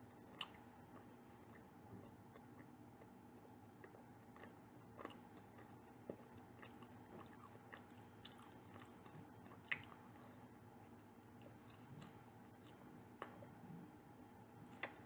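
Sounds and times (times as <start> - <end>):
chewing soft pastry: 0.0 - 15.0.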